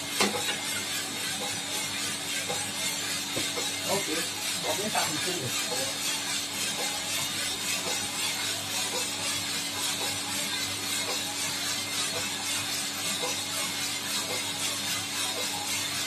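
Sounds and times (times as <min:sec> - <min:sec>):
coffee roaster running: 0:00.0 - 0:16.0.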